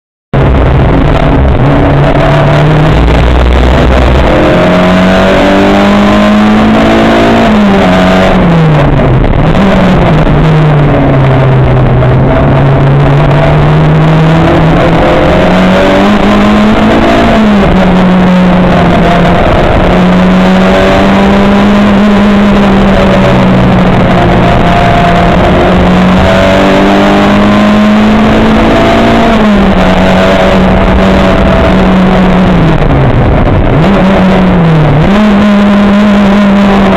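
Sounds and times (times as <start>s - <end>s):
racing car engine revving: 0.4s - 36.9s.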